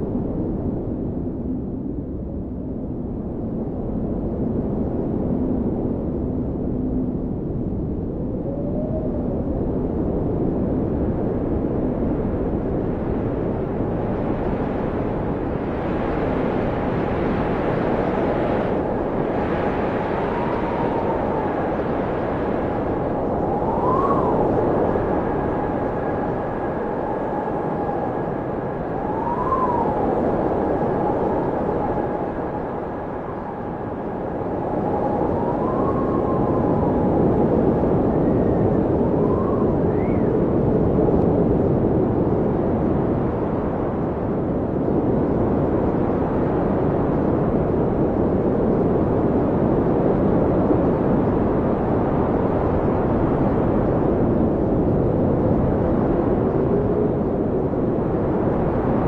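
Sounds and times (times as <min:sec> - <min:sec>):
blizzard wind rushing: 0:00.0 - 0:59.0
wind whistling howl: 0:00.0 - 0:59.0.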